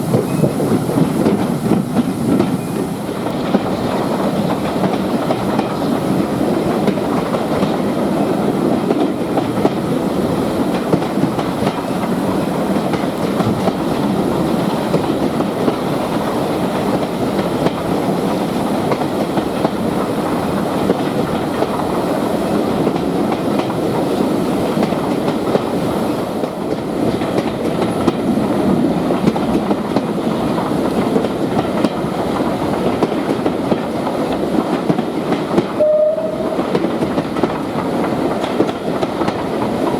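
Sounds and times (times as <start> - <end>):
wheels clicking over rail joints: 0.0 - 35.8, 36.5 - 39.9
train rumbling on track: 0.0 - 39.9.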